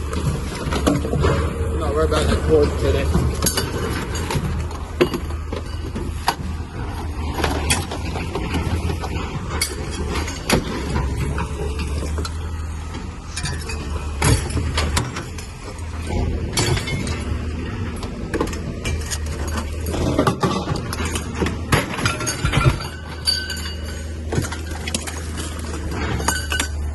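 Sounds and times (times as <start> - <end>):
low engine hum: 0.0 - 26.9
metallic clinks and knocks: 3.0 - 26.9.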